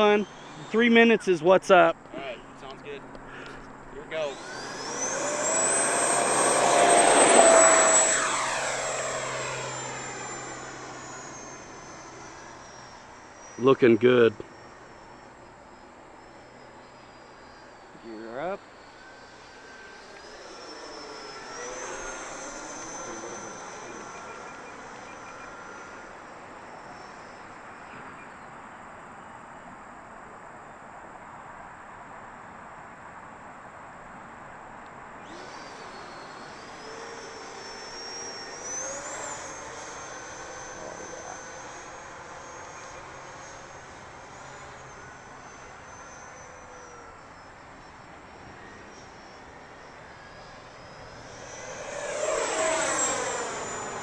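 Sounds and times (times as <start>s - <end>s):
model jet fan whining: 0.0s - 54.0s.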